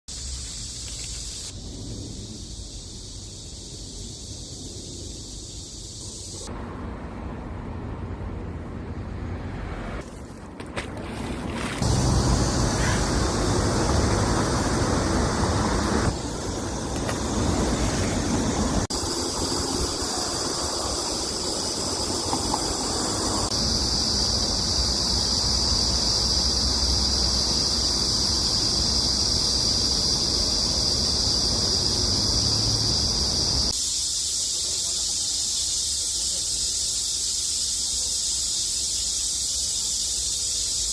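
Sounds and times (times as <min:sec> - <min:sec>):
cicadas buzzing: 0:00.1 - 0:40.9
rushing outdoor noise: 0:00.1 - 0:40.9.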